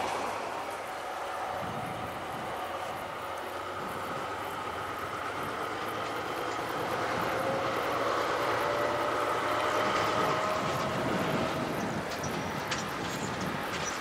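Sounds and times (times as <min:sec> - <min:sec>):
distant diesel locomotive running: 0:00.0 - 0:14.0.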